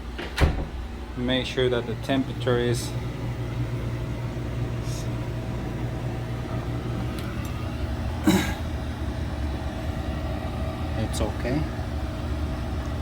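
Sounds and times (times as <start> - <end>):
air conditioning compressor humming: 0.0 - 13.0.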